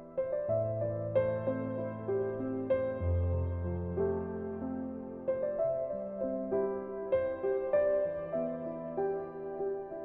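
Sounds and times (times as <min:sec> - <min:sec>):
soft keyboard melody: 0:00.0 - 0:10.0.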